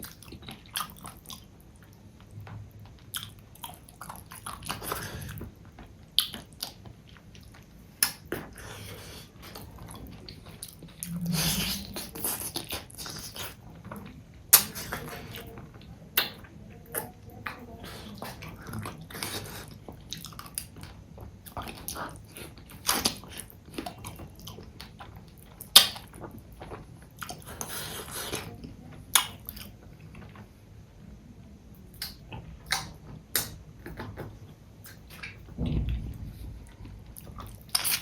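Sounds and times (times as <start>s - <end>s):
wet chewing and smacking: 0.0s - 30.4s, 31.9s - 35.6s, 36.6s - 38.0s.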